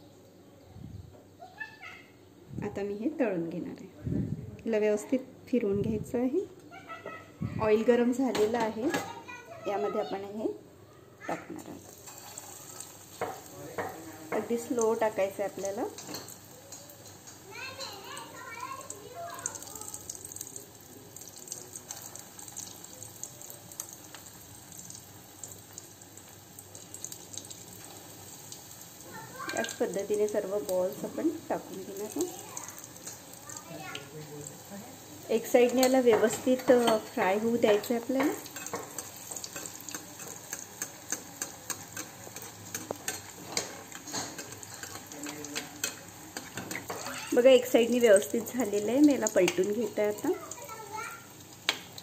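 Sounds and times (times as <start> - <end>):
hot oil sizzling and crackling: 7.6 - 10.6, 11.2 - 52.0.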